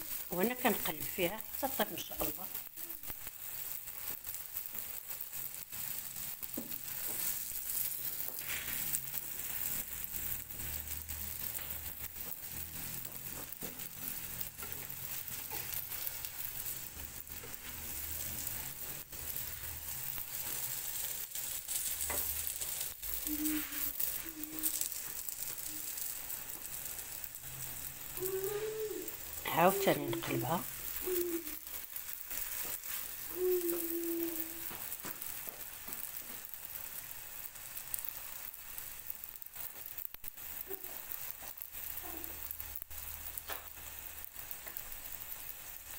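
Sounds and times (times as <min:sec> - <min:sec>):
flatbread sizzling in a pan: 0:00.0 - 0:45.9.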